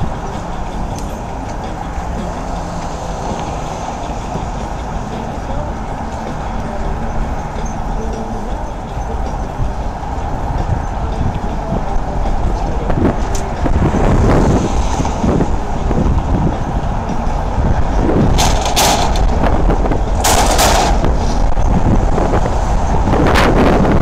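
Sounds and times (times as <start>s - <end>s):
bridge traffic rumble: 0.0s - 24.0s
wind buffeting microphone: 0.0s - 24.0s.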